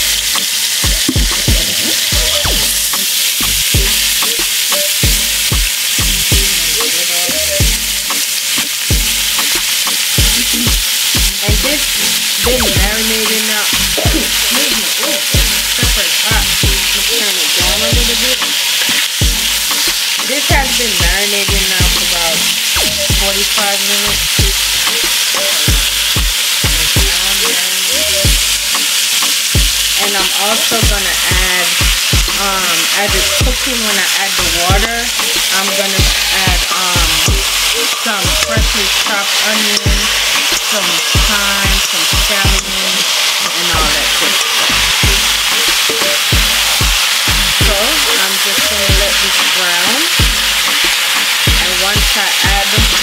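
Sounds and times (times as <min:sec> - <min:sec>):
background music with deep beat: 0:00.0 - 0:30.0, 0:30.8 - 0:39.1, 0:39.9 - 0:42.8, 0:43.4 - 0:53.0
meat sizzling in oil: 0:00.0 - 0:53.0.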